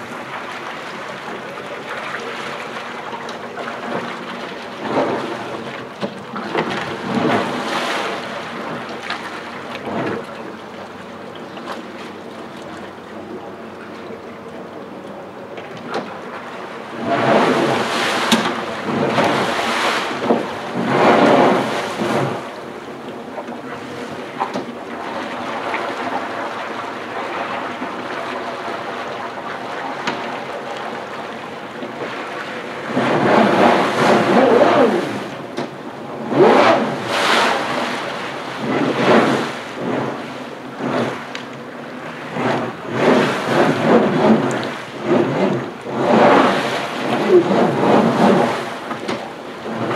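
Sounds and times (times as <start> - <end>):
jet pump churning water: 0.0 - 49.9
jet ski engine revving: 0.0 - 49.9.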